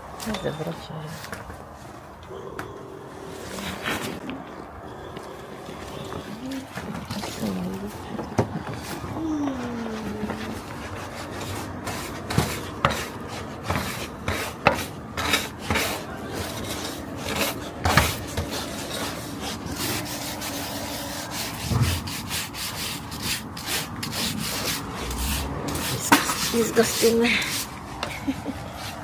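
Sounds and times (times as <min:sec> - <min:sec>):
brush scrubbing a surface: 0:05.6 - 0:29.0.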